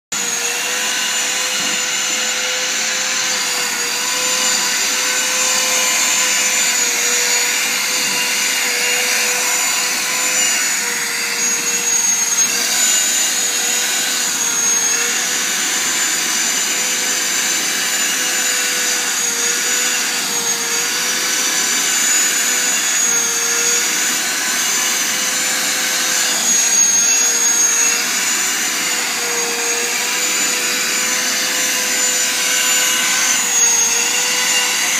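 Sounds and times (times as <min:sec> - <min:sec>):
vacuum cleaner whining: 0:00.1 - 0:34.9.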